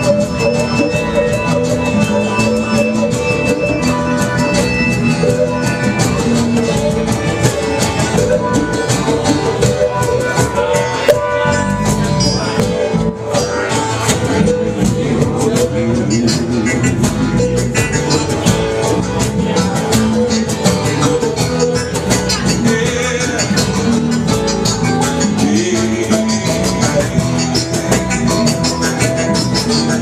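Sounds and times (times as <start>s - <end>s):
steady drum beat: 0.0s - 30.0s
sustained guitar notes: 0.0s - 30.0s.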